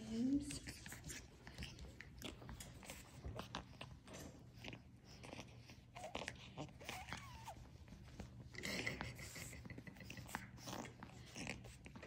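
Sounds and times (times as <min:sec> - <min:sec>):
puppies chewing plush toys: 0:00.0 - 0:12.0.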